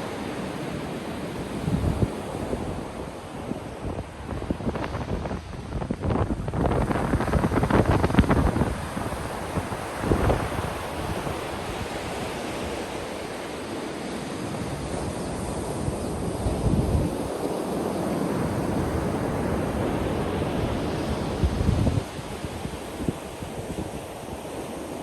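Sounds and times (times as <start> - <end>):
waves crashing on beach: 0.0 - 25.0.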